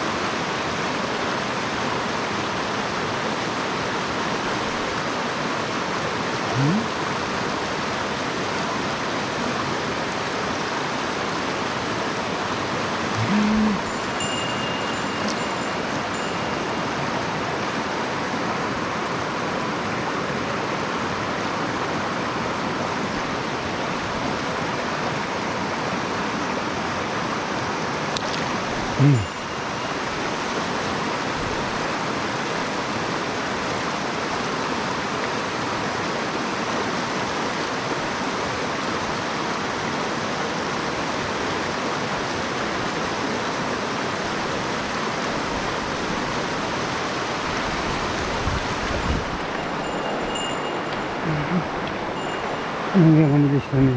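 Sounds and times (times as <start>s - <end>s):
stream rushing: 0.0s - 53.9s.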